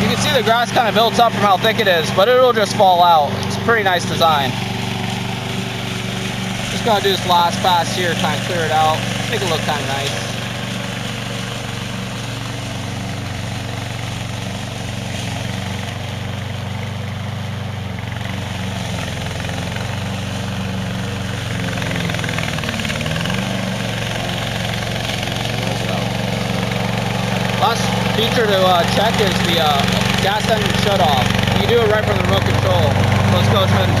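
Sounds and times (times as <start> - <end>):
mower engine cutting grass: 0.0 - 34.0.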